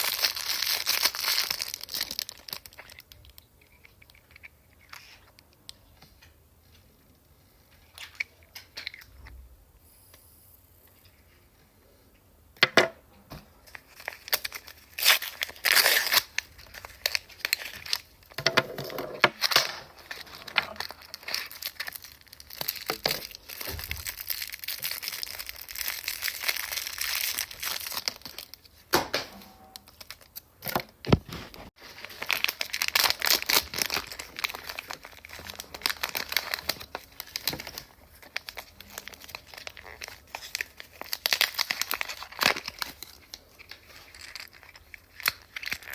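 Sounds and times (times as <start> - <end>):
plastic wrapping crinkling and tearing: 0.0 - 5.5, 13.6 - 45.9.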